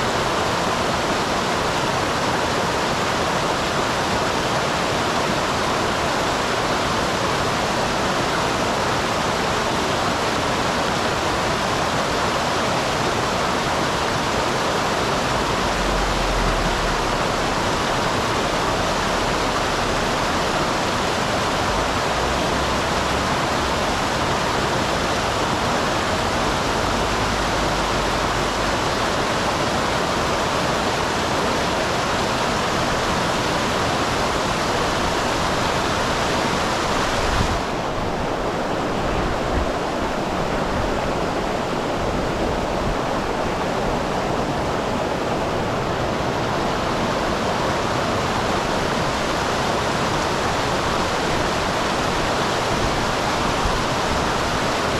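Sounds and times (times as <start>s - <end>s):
stream pouring over waterfall: 0.0s - 54.9s.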